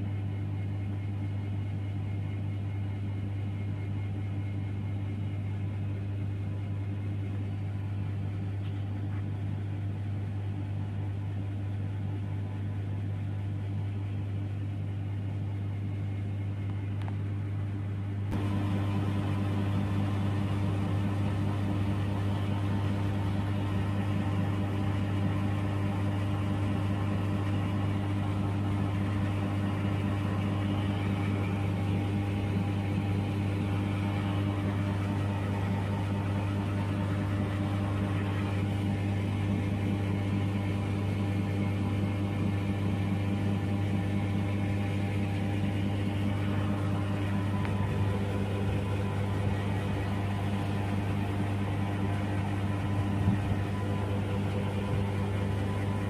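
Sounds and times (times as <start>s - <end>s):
compressor humming: 0.0s - 56.0s.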